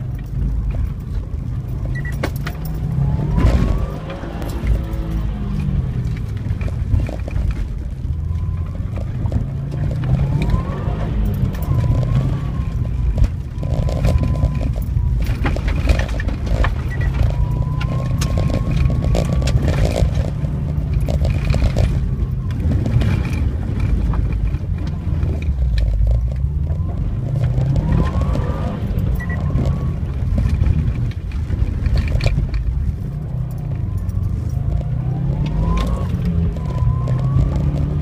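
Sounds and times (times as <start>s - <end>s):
car engine revving: 0.0s - 38.0s
knocks and clatter from rough road: 0.0s - 38.0s.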